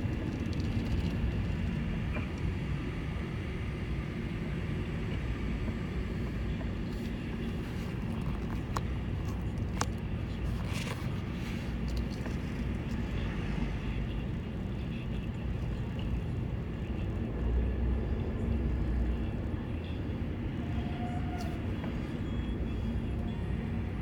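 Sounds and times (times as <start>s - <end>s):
road rumble: 0.0s - 24.0s
vehicle engine drone: 0.0s - 24.0s.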